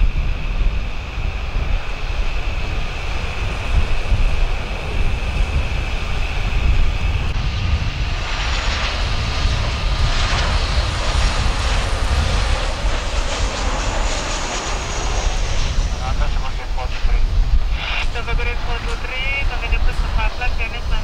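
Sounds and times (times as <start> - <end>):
jet airliner passing low: 0.0 - 21.0
jet engine high whine: 0.0 - 21.0
wind rumble on microphone: 0.0 - 21.0.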